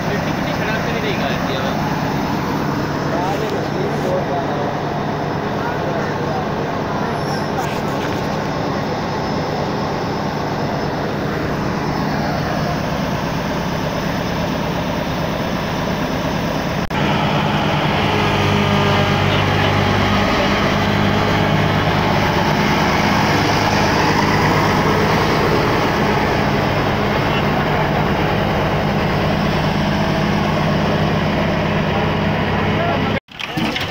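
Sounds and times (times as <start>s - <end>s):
combine harvester engine running: 0.0s - 33.9s.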